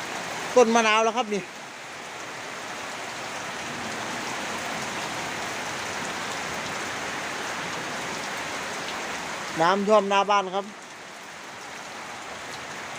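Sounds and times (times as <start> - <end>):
heavy rain pouring: 0.0 - 12.9.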